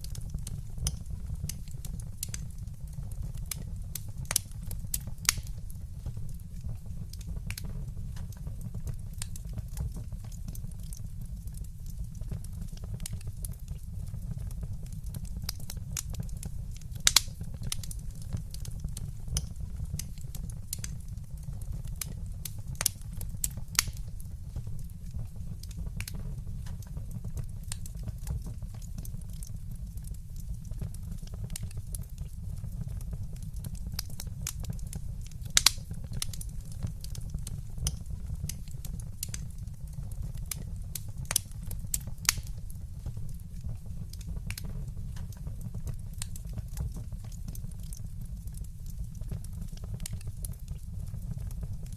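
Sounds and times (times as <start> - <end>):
fire crackling: 0.0 - 51.9
low fire rumble: 0.0 - 51.9.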